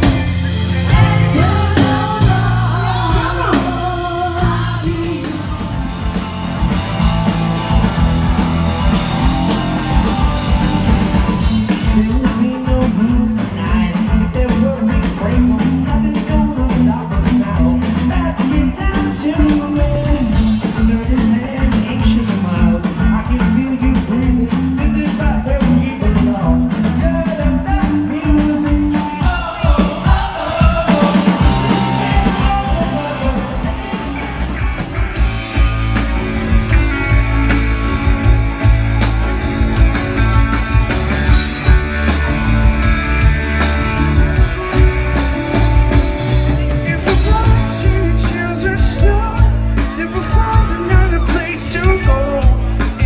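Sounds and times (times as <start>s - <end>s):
live rock band with singing: 0.0s - 53.0s.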